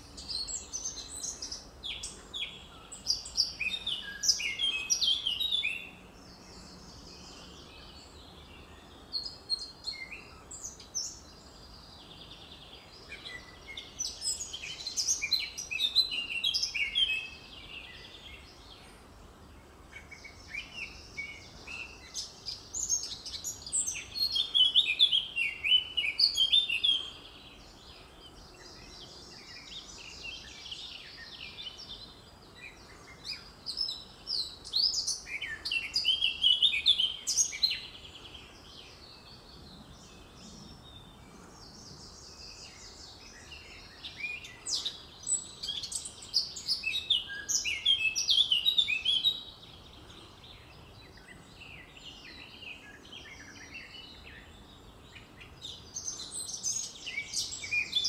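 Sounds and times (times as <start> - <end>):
bird warbling song: 0.0 - 58.0.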